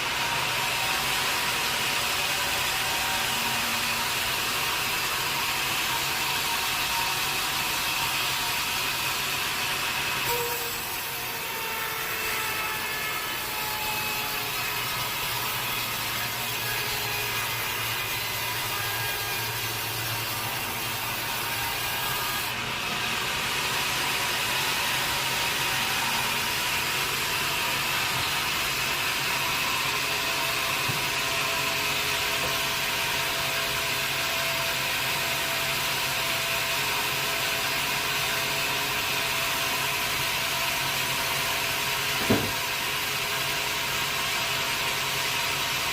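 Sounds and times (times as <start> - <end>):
sawmill saw cutting log: 0.0 - 45.9.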